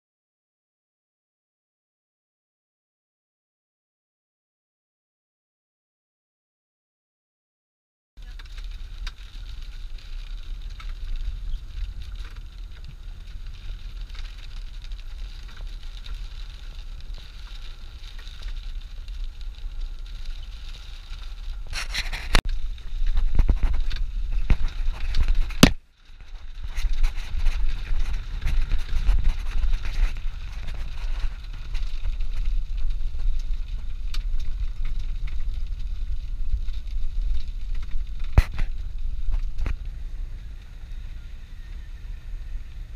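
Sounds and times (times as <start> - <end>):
engine and road rumble: 8.2 - 42.9.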